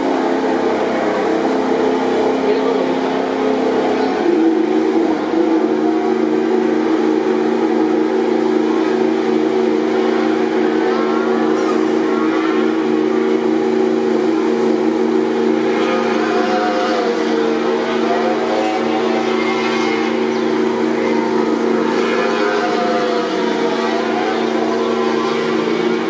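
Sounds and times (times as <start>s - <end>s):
racing motorcycle engine idling: 0.0s - 26.0s.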